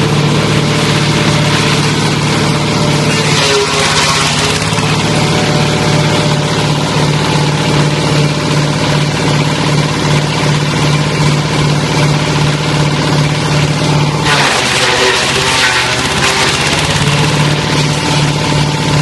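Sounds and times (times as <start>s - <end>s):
wood chipper engine running: 0.0s - 19.0s
branches rushing through chipper: 0.1s - 19.0s.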